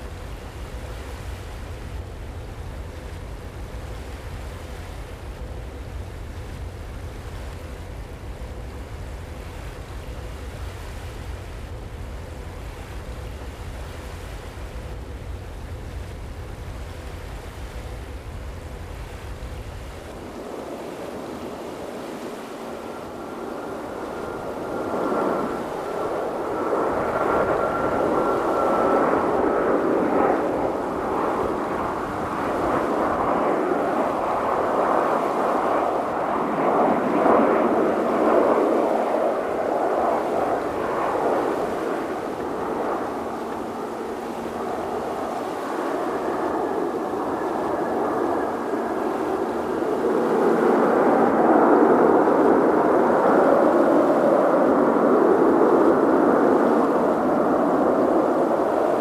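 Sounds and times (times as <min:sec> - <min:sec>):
faint high whine: 0:00.0 - 0:59.0
jet engine rush: 0:00.0 - 0:59.0.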